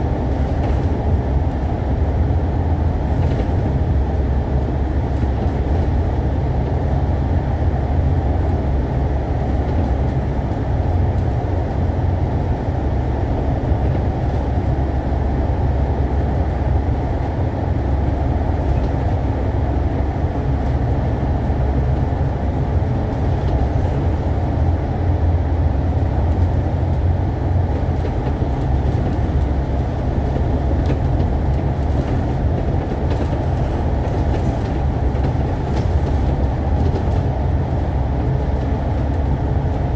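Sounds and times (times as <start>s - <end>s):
bus engine rumble: 0.0s - 39.9s.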